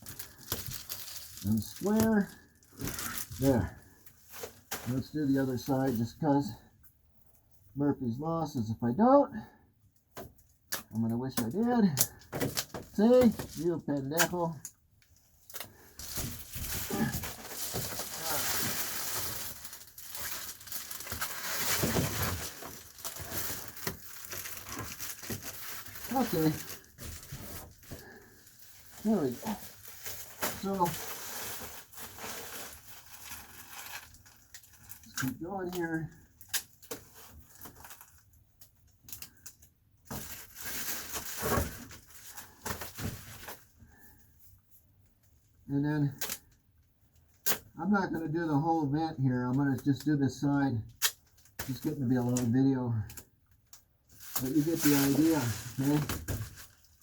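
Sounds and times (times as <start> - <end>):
bubble insulation crinkling: 0.0 - 6.0, 10.7 - 44.2, 50.9 - 57.0.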